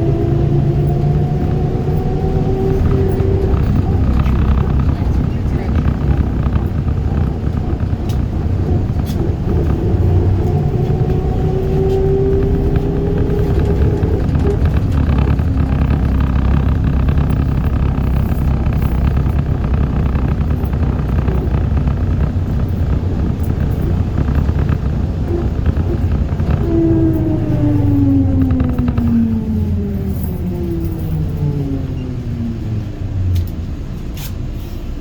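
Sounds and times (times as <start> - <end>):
electric motor whine: 0.0 - 32.2
trolleybus running rumble: 0.0 - 35.0.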